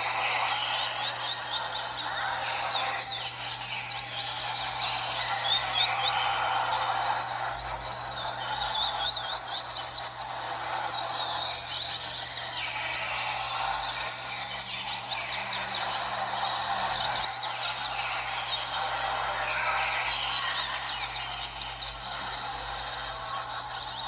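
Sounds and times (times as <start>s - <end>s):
many birds chirping: 0.0s - 24.0s
steady background noise: 0.0s - 24.0s.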